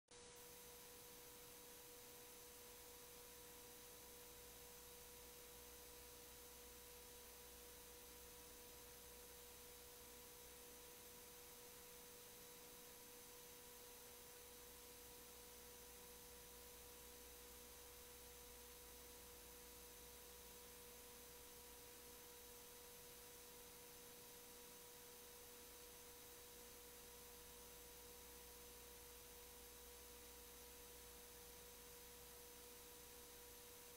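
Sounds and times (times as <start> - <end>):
faint hiss: 0.1 - 33.9
faint steady tone: 0.1 - 33.9.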